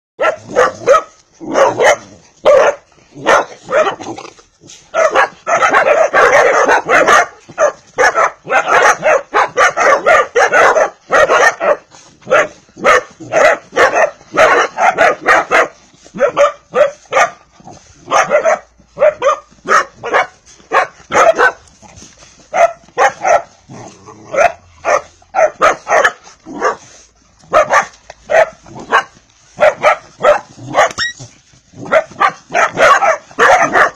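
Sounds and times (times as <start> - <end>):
dogs barking and yipping: 0.2 - 33.9.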